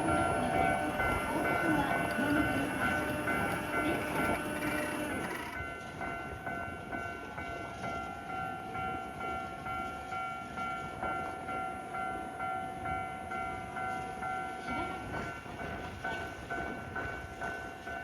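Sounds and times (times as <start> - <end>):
level crossing warning bell: 0.0 - 18.0
train running noise: 0.0 - 18.0.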